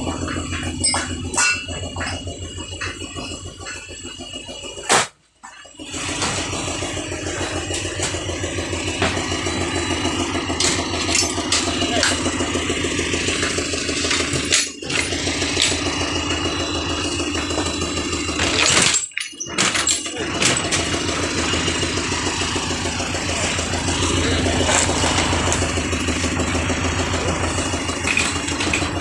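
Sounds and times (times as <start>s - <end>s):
vehicle engine idling: 0.0s - 4.8s, 5.8s - 18.8s, 19.8s - 29.0s.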